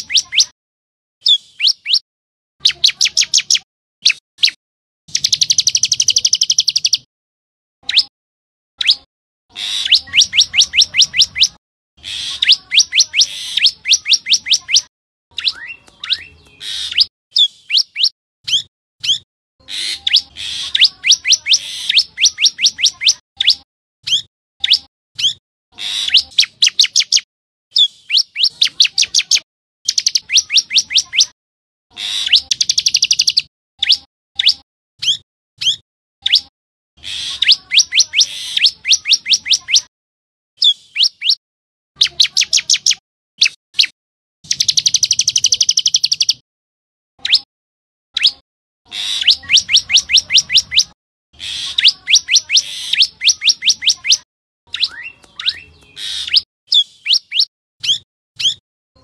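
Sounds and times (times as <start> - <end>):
bird singing rapid high chirps: 0.0 - 0.5, 1.2 - 2.0, 2.6 - 7.1, 7.8 - 8.1, 8.8 - 31.3, 32.0 - 39.9, 40.6 - 41.4, 42.0 - 43.9, 44.5 - 46.4, 47.2 - 47.5, 48.2 - 58.6.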